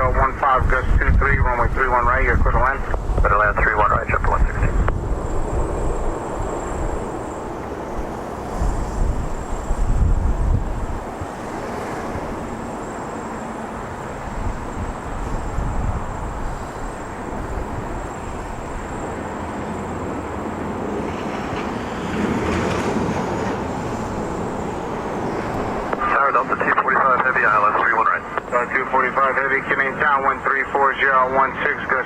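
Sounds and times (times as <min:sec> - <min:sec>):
wind buffeting microphone: 0:00.0 - 0:26.2
jet engine roar: 0:00.0 - 0:32.0.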